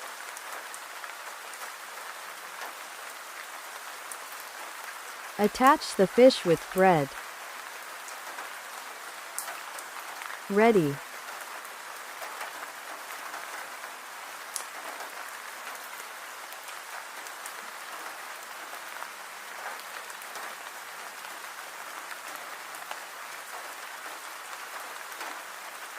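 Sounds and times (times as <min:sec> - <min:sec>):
steady rain-like hiss: 0:00.0 - 0:25.9.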